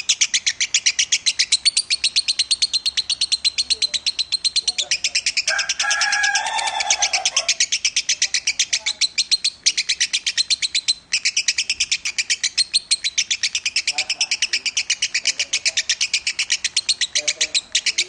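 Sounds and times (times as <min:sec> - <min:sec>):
lovebird chattering: 0:00.0 - 0:18.0.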